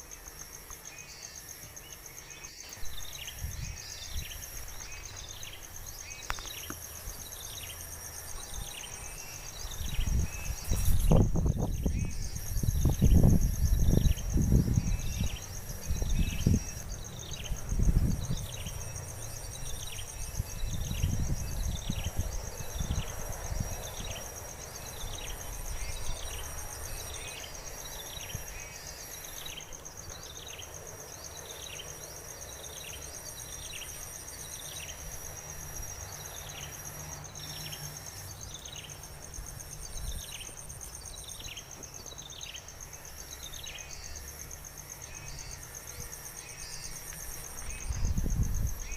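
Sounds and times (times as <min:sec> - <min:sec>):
insects buzzing and trilling: 0:00.0 - 0:48.9.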